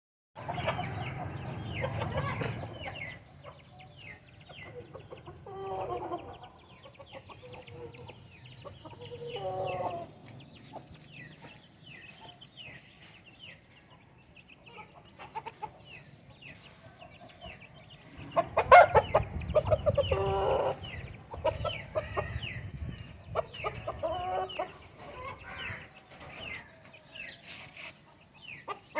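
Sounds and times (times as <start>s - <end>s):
chickens clucking: 0.4s - 28.9s.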